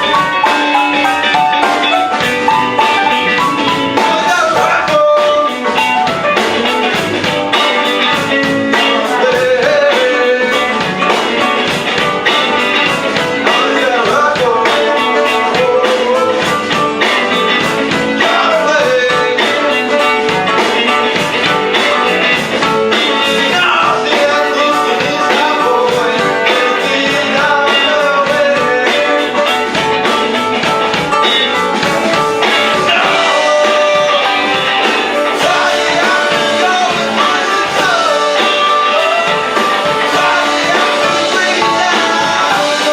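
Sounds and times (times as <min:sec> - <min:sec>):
guitar: 0:00.0 - 0:42.9
live blues-rock band: 0:00.0 - 0:42.9
steady drum beat: 0:00.0 - 0:42.9.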